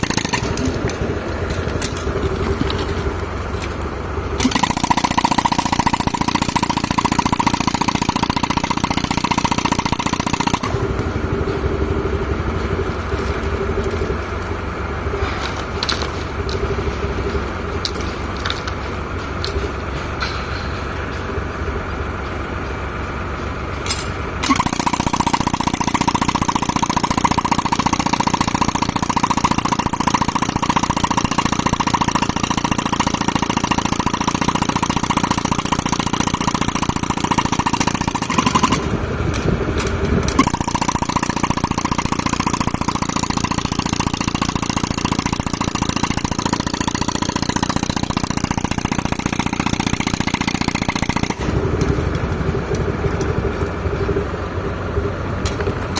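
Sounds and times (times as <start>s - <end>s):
air compressor engine: 0.0s - 55.9s
jackhammer hammering: 0.0s - 55.9s.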